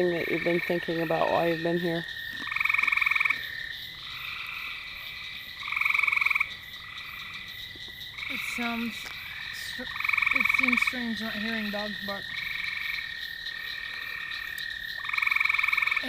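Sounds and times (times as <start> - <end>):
frogs trilling in chorus: 0.0 - 16.0.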